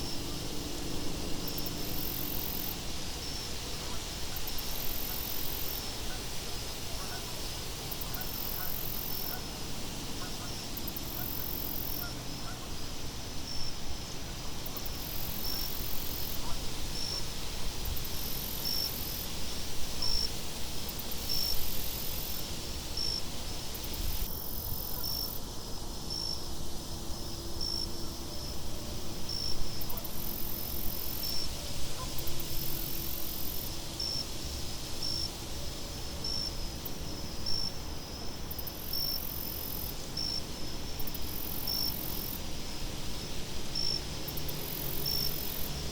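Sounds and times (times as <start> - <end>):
crickets chirping: 0.0 - 45.9
high insect trill: 0.0 - 45.9.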